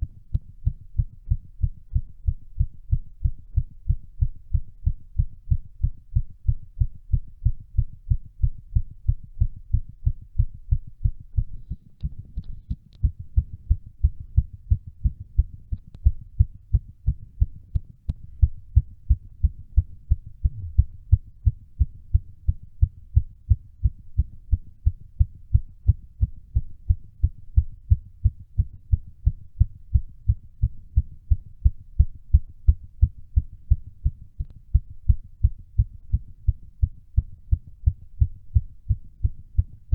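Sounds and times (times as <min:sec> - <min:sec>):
heart beating fast: 0:00.0 - 0:39.9.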